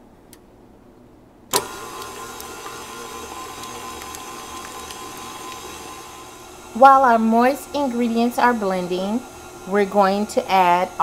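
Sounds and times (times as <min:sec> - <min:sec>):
stand mixer motor whining: 0:01.5 - 0:11.0.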